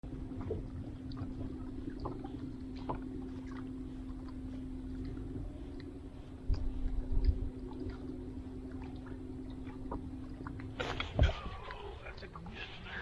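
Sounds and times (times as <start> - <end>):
boat motor humming: 0.0 - 13.0
water sounds: 0.0 - 13.0.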